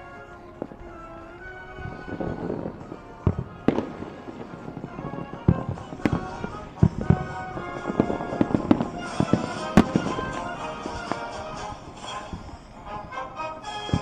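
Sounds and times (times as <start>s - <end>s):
firework shells bursting: 0.0s - 14.0s
music playing: 0.0s - 14.0s.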